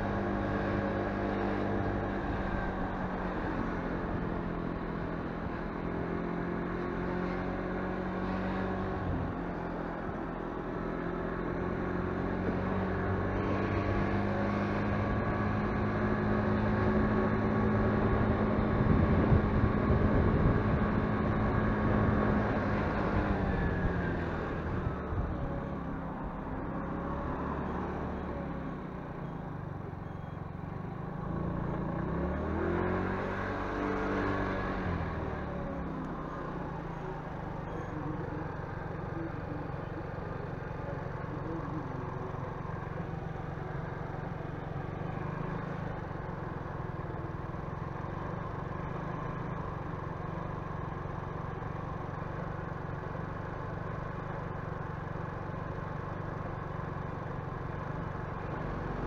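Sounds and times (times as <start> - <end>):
motorbike engine cruising: 0.0 - 59.0
road and wind noise: 0.0 - 59.0.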